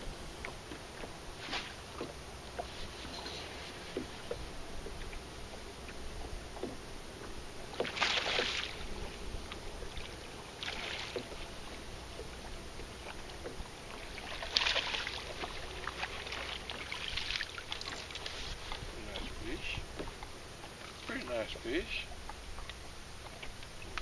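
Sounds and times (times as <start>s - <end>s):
waves slapping boat hull: 0.0s - 24.0s.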